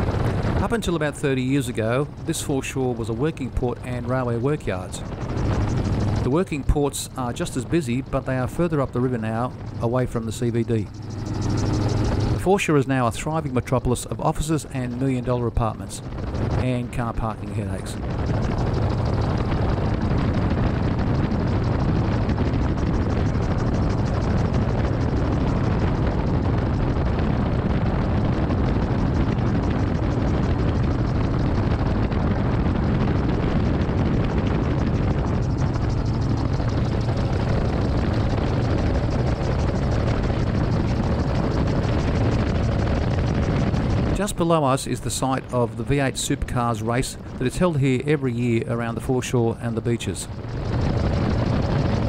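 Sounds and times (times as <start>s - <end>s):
engine and rotor drone: 0.0s - 52.0s
rushing wind: 0.0s - 52.0s.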